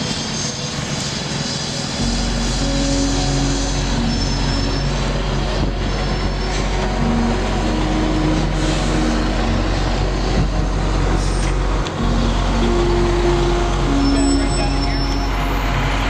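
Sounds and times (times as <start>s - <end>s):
diesel truck engines rumbling: 0.0s - 16.0s.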